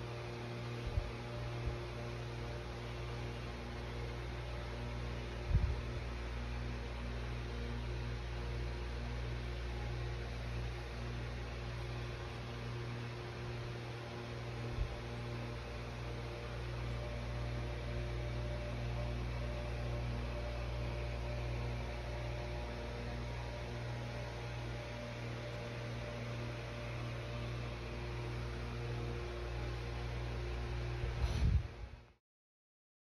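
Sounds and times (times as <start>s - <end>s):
electrical hum: 0.0s - 32.2s.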